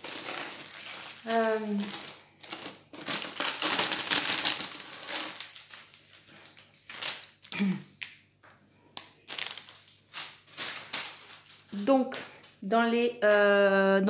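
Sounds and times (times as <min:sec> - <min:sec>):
plastic wrapping crinkling: 0:00.0 - 0:07.8, 0:09.0 - 0:12.6.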